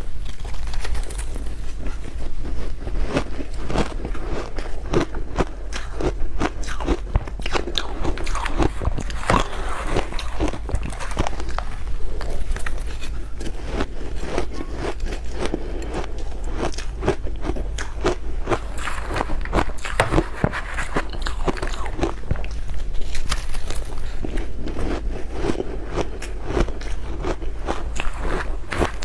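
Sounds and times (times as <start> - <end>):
faint low hum: 0.0 - 29.0
ice being chewed: 0.0 - 29.0.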